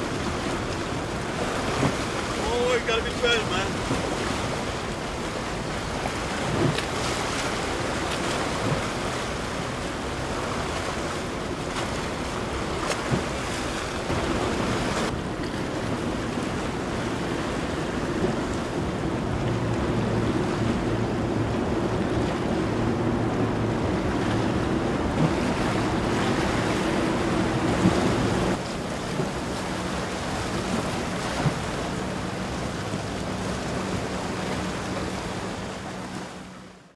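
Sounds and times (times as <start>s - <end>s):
wind buffeting microphone: 0.0s - 35.7s
boat engine hum: 0.0s - 36.9s
waves washing: 0.0s - 36.9s.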